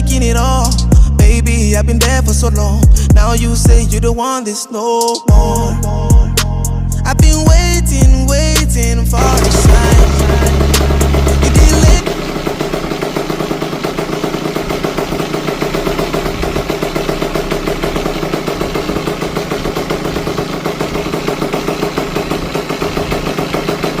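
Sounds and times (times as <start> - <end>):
dirt bike engine idling: 0.0 - 4.1, 7.0 - 24.0.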